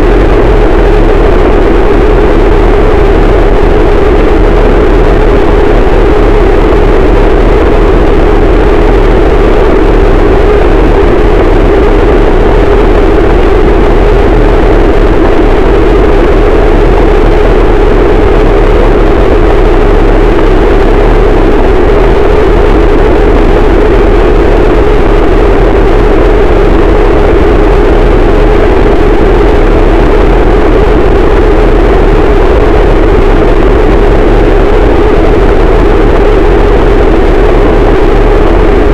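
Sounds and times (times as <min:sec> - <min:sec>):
loud distorted electronic noise: 0:00.0 - 0:38.9.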